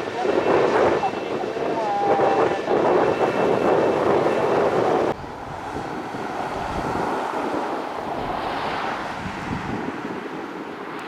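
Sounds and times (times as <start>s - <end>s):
loud jet engine noise: 0.0s - 11.0s
wind buffeting microphone: 0.0s - 11.0s.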